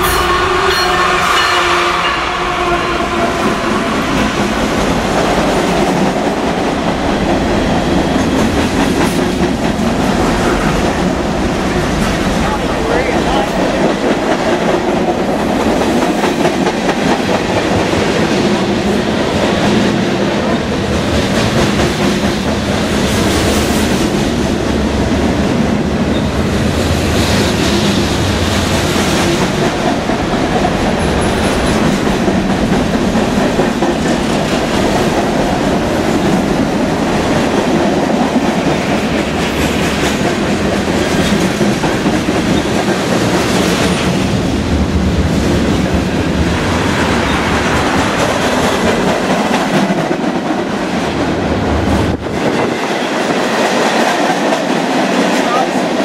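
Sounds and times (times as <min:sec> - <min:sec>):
train wheels running on rails: 0:00.0 - 0:56.0.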